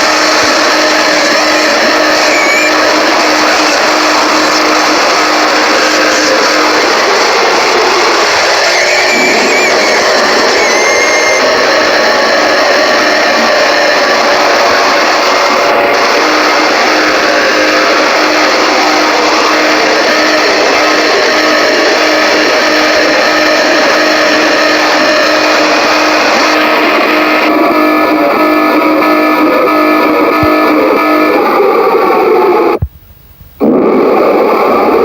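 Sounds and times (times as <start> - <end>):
harsh distorted alarm noise: 0.0 - 35.0.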